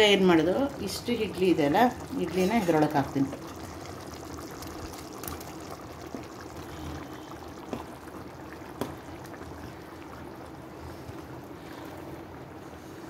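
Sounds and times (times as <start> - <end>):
gravy simmering hiss: 0.0 - 13.0.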